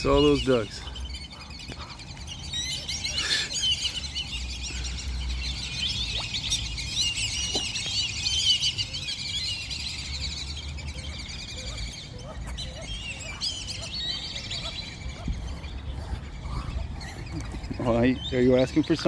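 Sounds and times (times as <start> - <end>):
ducks squeaky whistles and peeps: 0.0 - 19.0.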